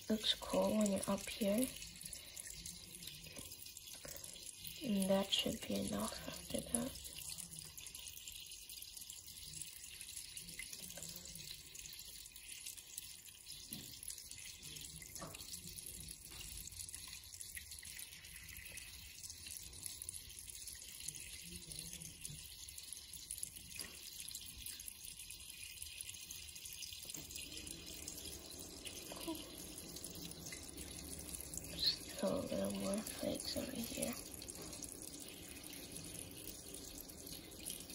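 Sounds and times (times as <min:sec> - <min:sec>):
water trickling into tank: 0:00.0 - 0:37.9.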